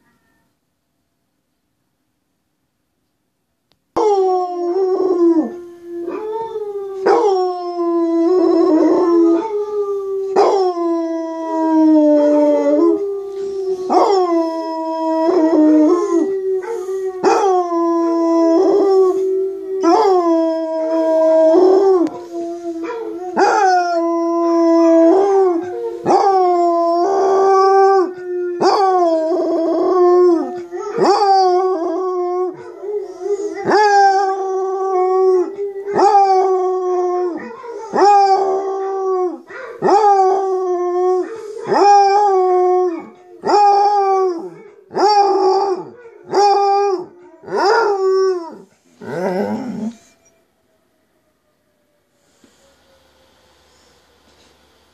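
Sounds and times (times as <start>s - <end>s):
dog howling: 4.0s - 51.0s.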